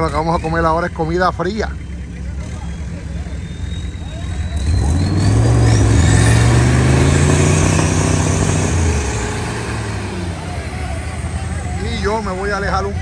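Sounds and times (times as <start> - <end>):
engine accelerating hard: 0.0 - 13.0.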